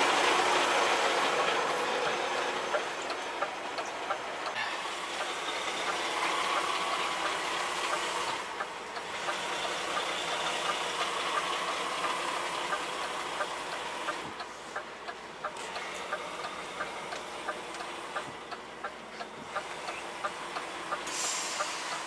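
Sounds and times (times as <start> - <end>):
truck engine steady hiss: 0.0 - 22.0.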